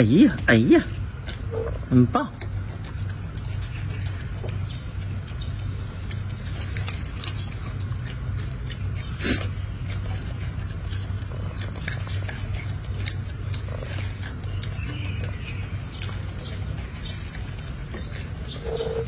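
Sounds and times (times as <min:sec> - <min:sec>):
monkey chewing crisp lettuce: 0:00.0 - 0:19.0
steady low hum: 0:00.0 - 0:19.0.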